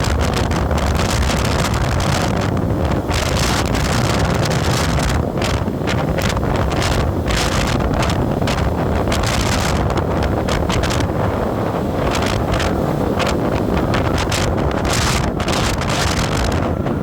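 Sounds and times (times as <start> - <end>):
low road rumble: 0.0 - 17.0
wind buffeting microphone: 0.0 - 17.0.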